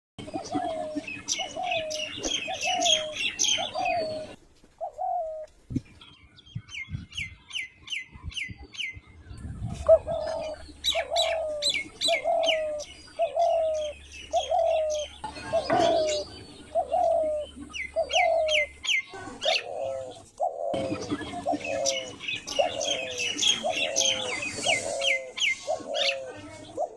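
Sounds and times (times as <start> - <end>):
small birds chirping: 0.2 - 26.9.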